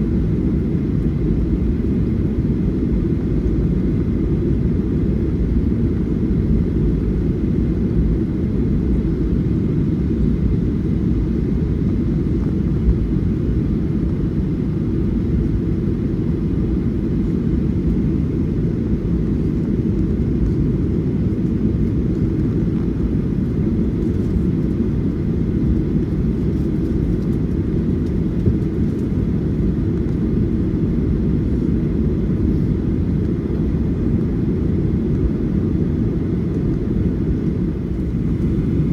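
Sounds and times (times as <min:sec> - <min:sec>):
airplane cabin low rumble: 0:00.0 - 0:38.9
faint steady whine: 0:00.0 - 0:38.9.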